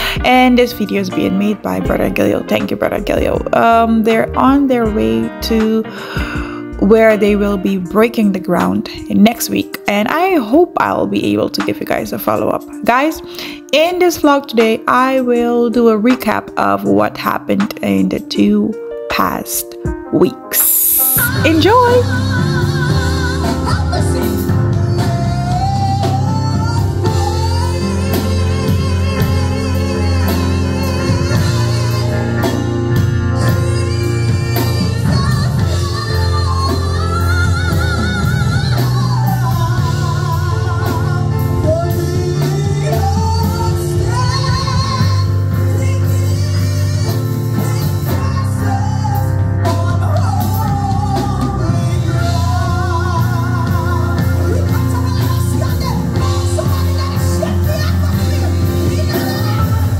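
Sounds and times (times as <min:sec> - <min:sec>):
instrumental accompaniment with bass: 0:00.0 - 0:59.9
woman singing into a microphone: 0:00.0 - 0:59.9.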